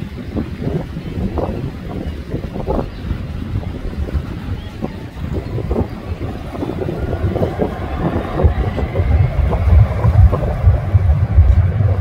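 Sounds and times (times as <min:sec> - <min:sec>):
distant jet engines: 0:00.0 - 0:12.0
wind buffeting microphone: 0:00.0 - 0:12.0.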